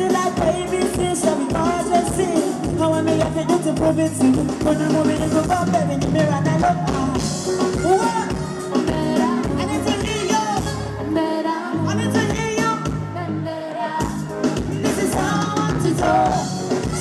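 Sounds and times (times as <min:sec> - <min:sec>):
woman singing: 0:00.0 - 0:05.3, 0:06.0 - 0:17.0
live band playing pop: 0:00.0 - 0:17.0.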